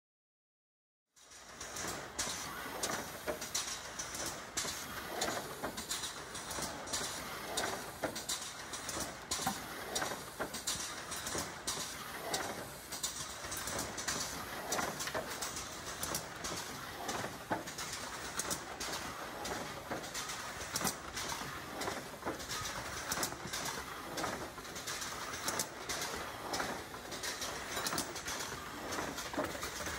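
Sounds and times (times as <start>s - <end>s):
machine metal clicks and knocks: 1.2s - 29.9s.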